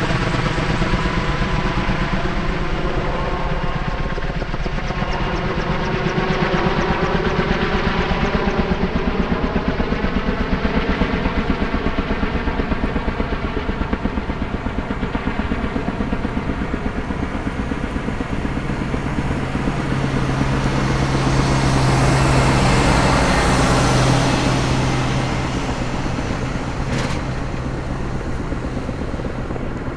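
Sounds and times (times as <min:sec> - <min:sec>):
helicopter rotors thumping: 0:00.0 - 0:29.9
helicopter turbine whining: 0:00.0 - 0:29.9.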